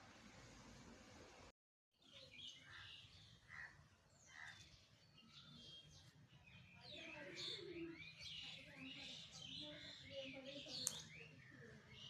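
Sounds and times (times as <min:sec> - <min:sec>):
faint birds chirping: 0:02.0 - 0:12.0.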